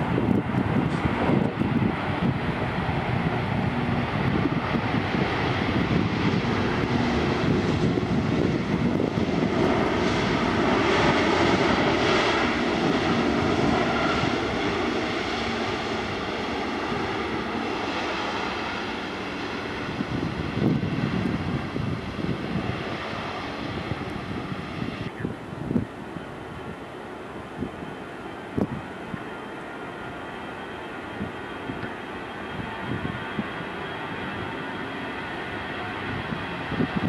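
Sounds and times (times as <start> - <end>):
jet engine rumble and hiss: 0.0 - 37.0.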